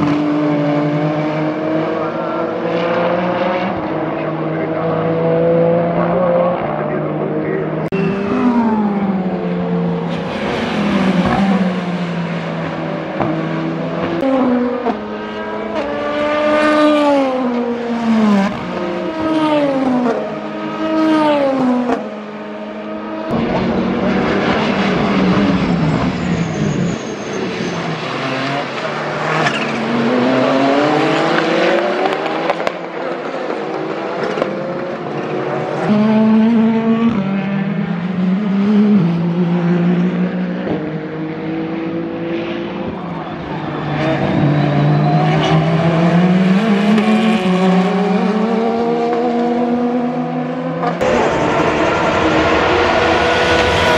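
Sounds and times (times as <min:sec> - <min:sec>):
car accelerating through upshifts: 0:00.0 - 0:26.2, 0:27.8 - 0:53.9
car braking and downshifting: 0:00.0 - 0:53.9
racing cars passing at speed: 0:00.0 - 0:53.9.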